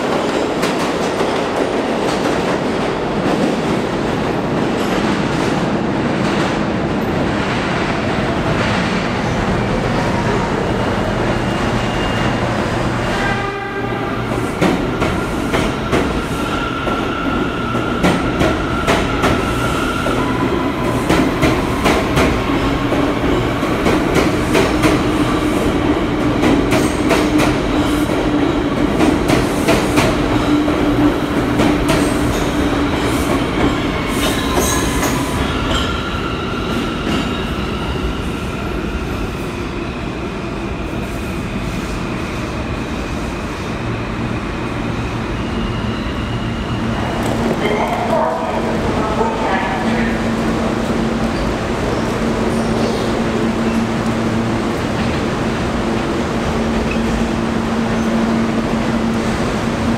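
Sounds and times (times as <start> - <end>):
subway train rumbling: 0.0 - 59.9.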